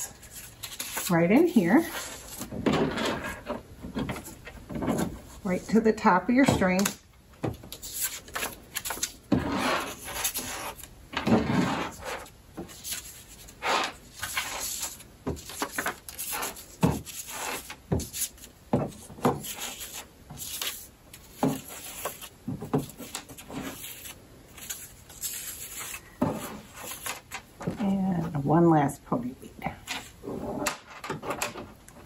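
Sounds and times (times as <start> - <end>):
paper rustling and scraping: 0.0 - 7.0, 7.7 - 27.9.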